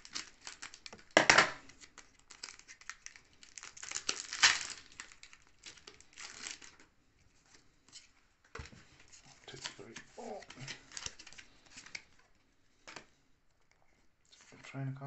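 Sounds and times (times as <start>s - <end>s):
foil wrapper crinkling: 0.0s - 8.1s, 9.0s - 13.0s.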